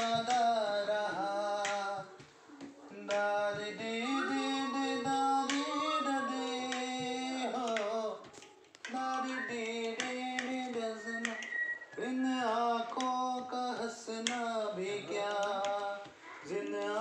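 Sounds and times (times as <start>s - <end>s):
person singing slow melody: 0.0s - 17.0s.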